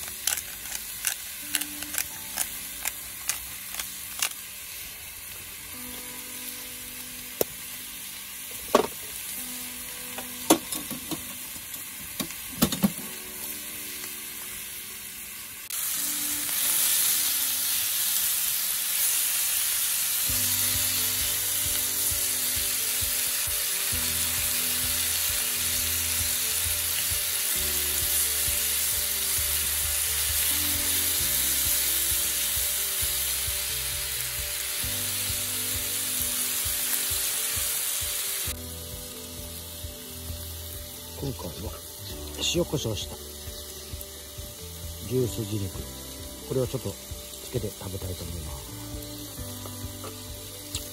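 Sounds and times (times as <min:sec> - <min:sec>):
meat sizzling in a frying pan: 0:00.0 - 0:50.9.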